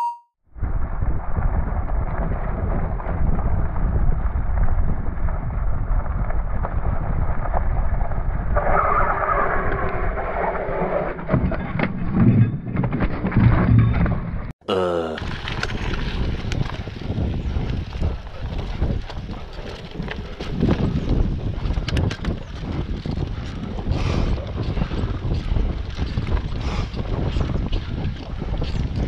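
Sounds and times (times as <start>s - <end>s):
slowed wind and tyre rumble: 0.5s - 14.5s, 15.2s - 29.0s.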